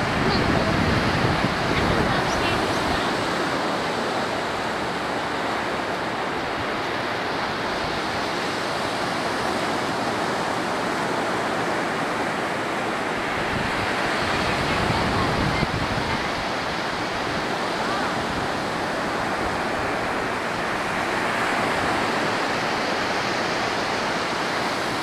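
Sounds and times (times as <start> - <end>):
ocean surf breaking: 0.0 - 25.0
wind on microphone: 0.0 - 25.0.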